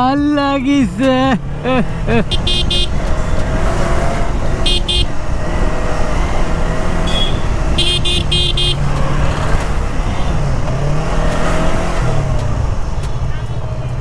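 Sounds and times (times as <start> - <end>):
motorcycle engine running: 0.0 - 14.0
vehicle horns tooting: 0.0 - 14.0.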